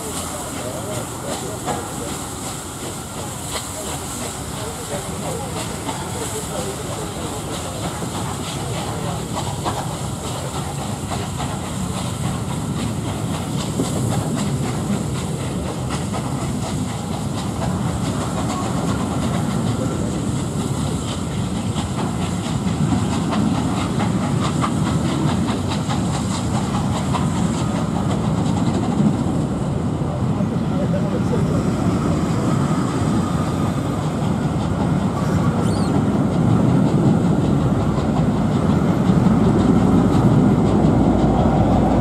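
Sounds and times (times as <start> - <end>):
train rumble: 0.0 - 42.0
train wheels clicking over rail joints: 0.0 - 42.0.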